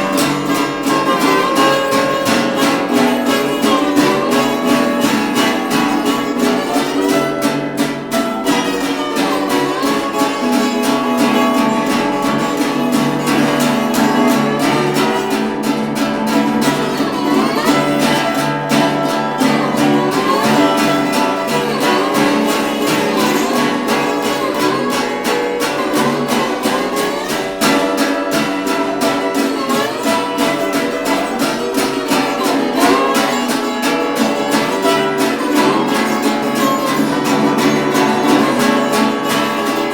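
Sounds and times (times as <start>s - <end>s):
acoustic blues band: 0.0s - 39.9s
strummed acoustic guitar: 0.0s - 39.9s
ukulele: 0.0s - 39.9s.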